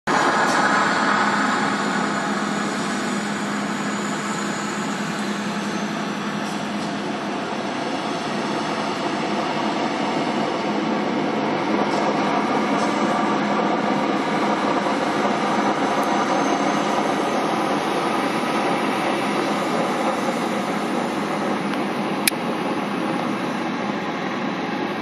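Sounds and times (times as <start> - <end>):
rail grinding noise: 0.1 - 25.0.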